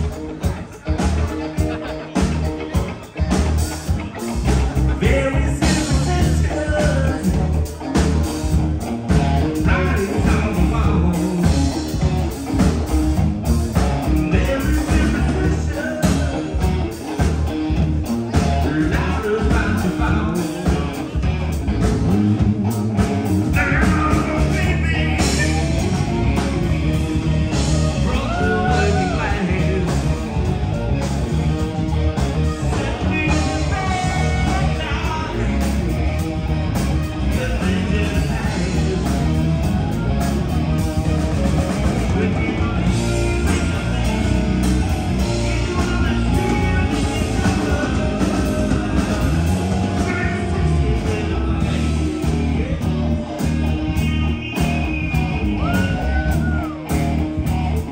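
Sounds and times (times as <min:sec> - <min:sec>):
bass guitar: 0:00.0 - 0:57.9
drums: 0:00.0 - 0:57.9
electric guitars: 0:00.0 - 0:57.9
man singing lead vocals: 0:00.0 - 0:57.9.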